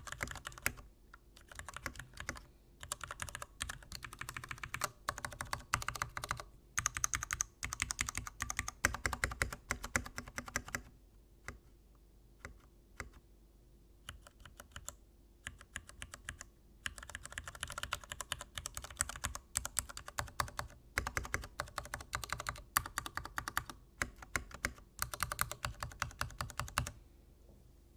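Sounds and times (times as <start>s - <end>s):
mechanical keyboard typing: 0.0s - 0.8s, 1.4s - 10.9s, 14.1s - 27.0s.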